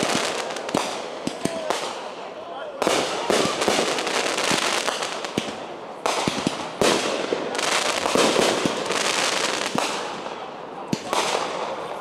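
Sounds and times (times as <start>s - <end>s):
fireworks crackling: 0.0s - 12.0s
fireworks sharp bangs: 0.0s - 12.0s.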